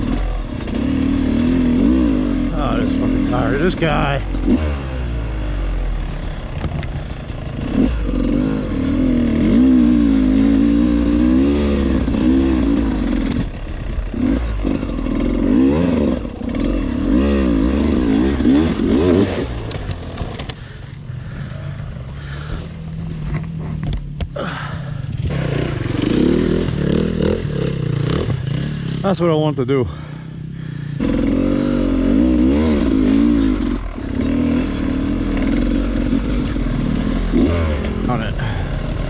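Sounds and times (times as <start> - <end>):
dirt bike engine revving: 0.0 - 23.8, 24.4 - 39.0.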